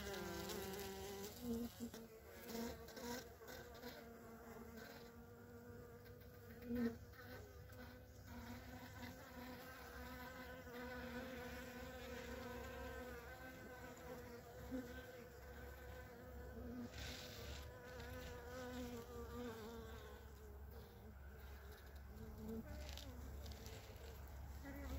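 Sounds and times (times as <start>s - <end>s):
bees buzzing: 0.0s - 24.9s.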